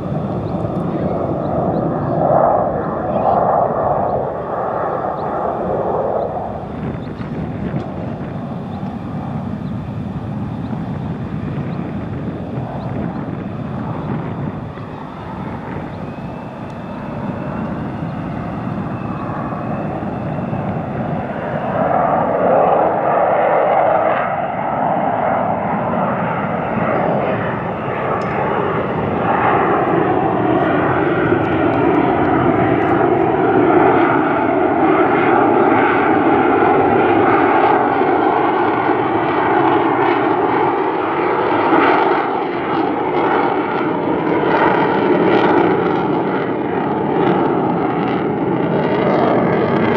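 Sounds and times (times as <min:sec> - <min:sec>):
fighter jet flying past: 0:00.0 - 0:49.9.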